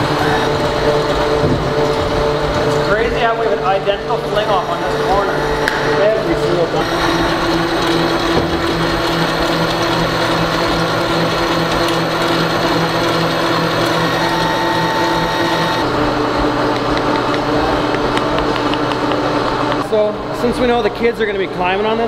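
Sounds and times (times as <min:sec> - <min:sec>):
electric motor humming: 0:00.0 - 0:19.8
mechanical noise: 0:00.0 - 0:20.0
machine hum: 0:00.0 - 0:22.0.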